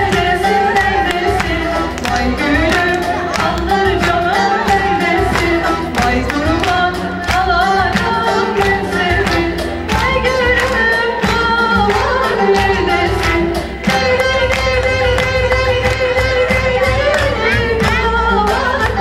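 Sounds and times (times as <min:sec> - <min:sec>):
bass guitar: 0:00.0 - 0:19.0
woman singing: 0:00.0 - 0:19.0.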